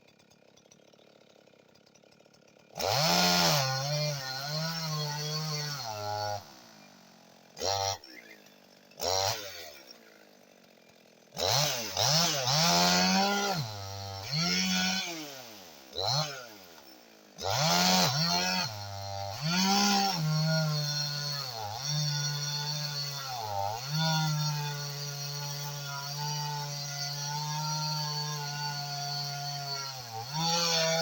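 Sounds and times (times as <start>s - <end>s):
chainsaw revving: 0.0s - 31.0s.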